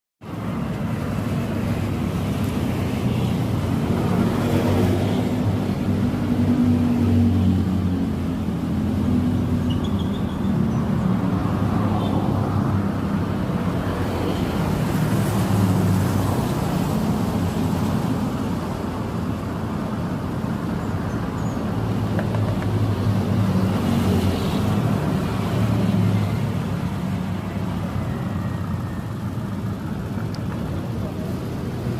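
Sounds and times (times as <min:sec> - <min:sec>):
road traffic noise: 0:00.2 - 0:31.9
vehicles passing: 0:00.2 - 0:31.9.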